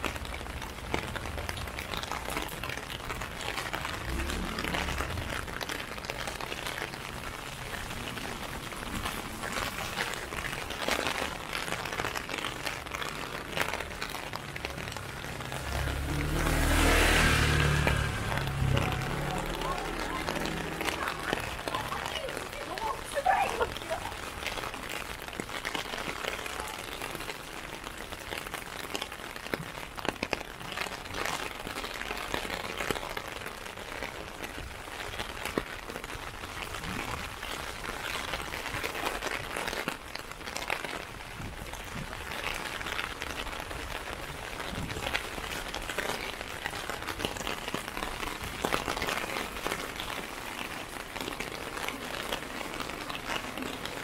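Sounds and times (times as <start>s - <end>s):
rain pattering on plastic umbrella: 0.0s - 54.0s.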